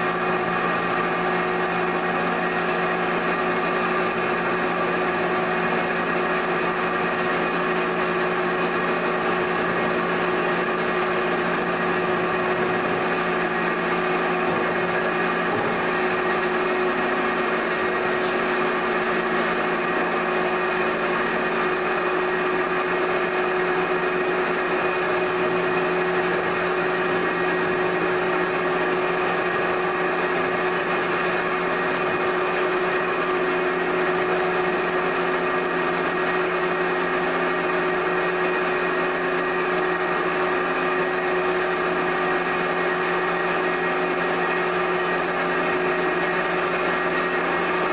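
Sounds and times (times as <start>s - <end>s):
potter's wheel motor hum: 0.0s - 47.9s.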